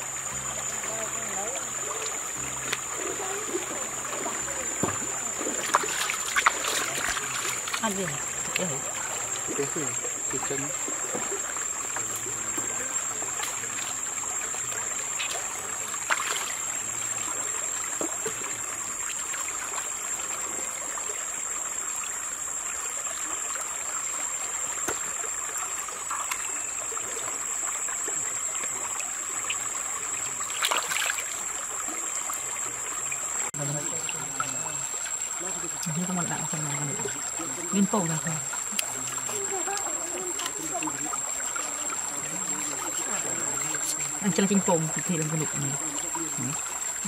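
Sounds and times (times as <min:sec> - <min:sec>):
stream trickling: 0:00.0 - 0:47.0
water splashes: 0:00.0 - 0:47.0.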